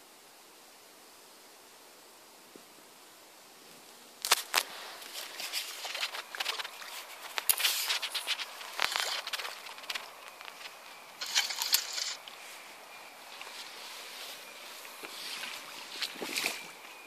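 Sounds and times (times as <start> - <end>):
faint steady hiss: 0.0 - 17.0
rustling and crackling leaves: 2.4 - 17.0.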